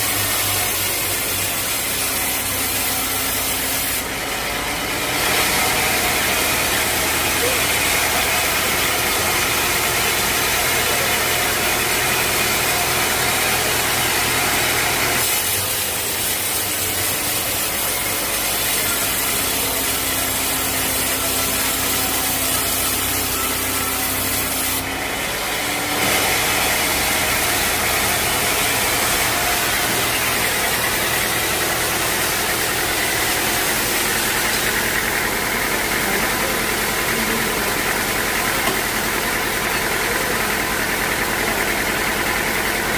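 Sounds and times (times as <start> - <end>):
sawmill machinery humming: 0.0 - 42.9.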